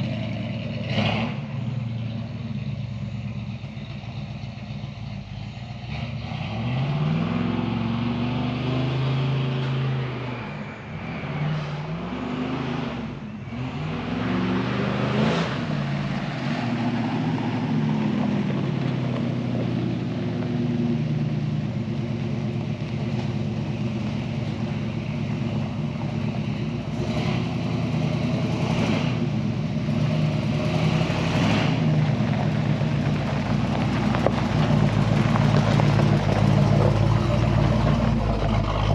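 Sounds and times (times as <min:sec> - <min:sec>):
pickup truck engine revving: 0:00.0 - 0:38.9.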